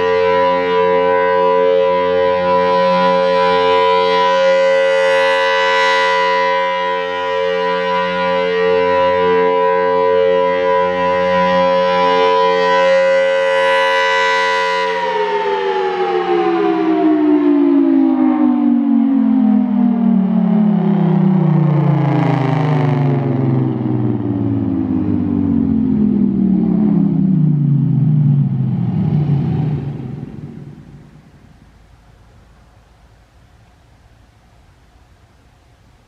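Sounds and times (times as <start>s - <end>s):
rotating siren tone: 0.0s - 31.6s.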